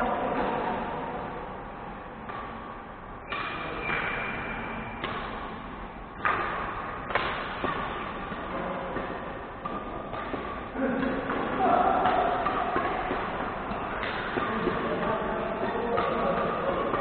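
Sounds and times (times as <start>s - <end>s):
rackets hitting shuttlecock: 0.0s - 17.0s.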